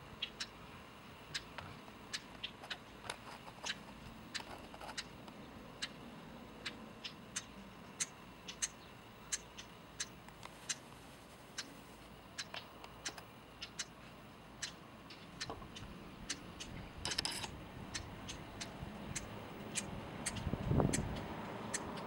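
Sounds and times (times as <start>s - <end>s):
bird clicking call notes: 1.3s - 6.0s, 6.6s - 10.9s, 11.5s - 14.0s, 14.6s - 22.0s.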